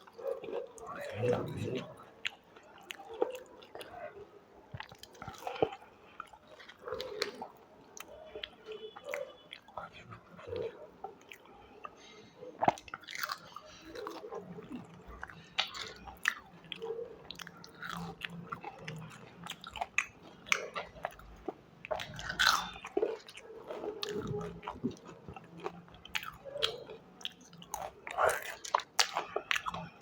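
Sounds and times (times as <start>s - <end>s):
person chewing food: 0.0s - 30.0s.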